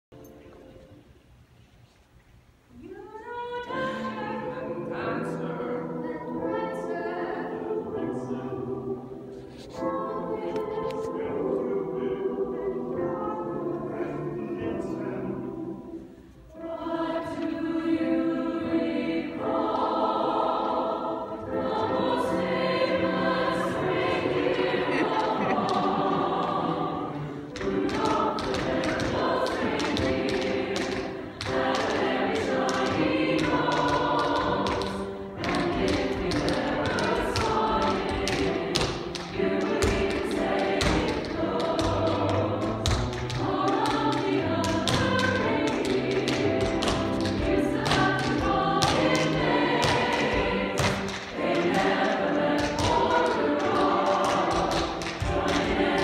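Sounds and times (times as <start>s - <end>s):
large choir singing: 2.7s - 56.0s.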